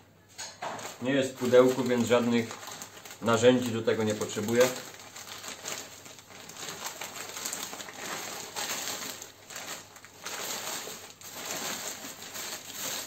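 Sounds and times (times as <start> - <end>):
plastic bag tearing and crumpling: 0.6 - 13.0.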